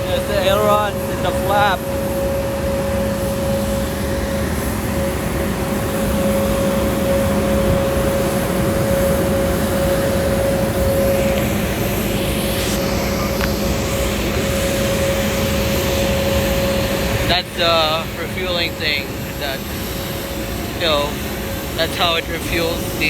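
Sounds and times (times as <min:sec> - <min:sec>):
aircraft machinery drone: 0:00.0 - 0:23.0
constant whine: 0:00.0 - 0:23.0.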